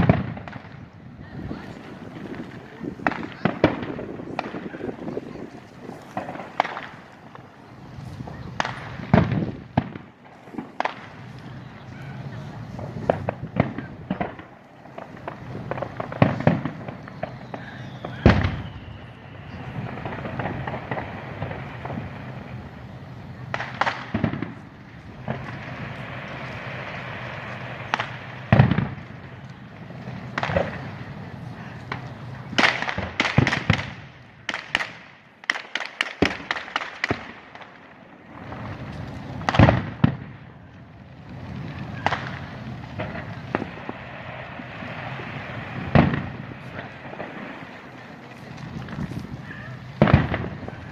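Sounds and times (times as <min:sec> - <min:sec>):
firework shells bursting: 0:00.0 - 0:40.8, 0:41.8 - 0:50.9
crackling firework reports: 0:00.0 - 0:50.9.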